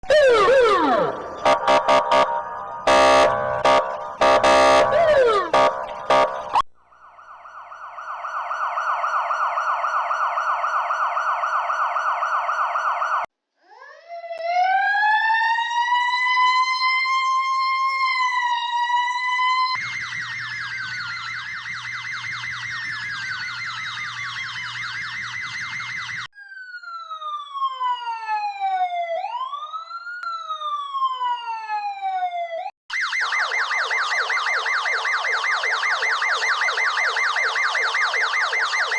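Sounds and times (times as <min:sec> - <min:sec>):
emergency vehicle sirens: 0:00.0 - 0:38.9.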